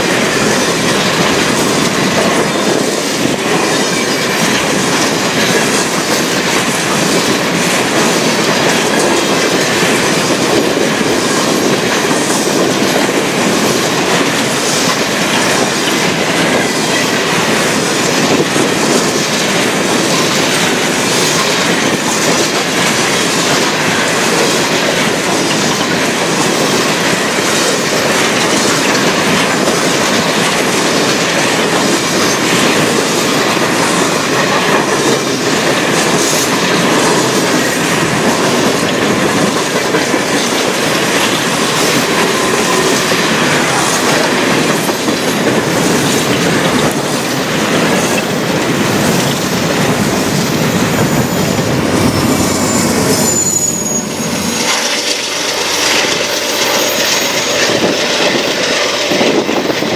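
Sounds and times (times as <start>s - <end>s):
freight train rumbling past: 0.0s - 59.9s
wheels clickety-clack: 0.0s - 59.9s.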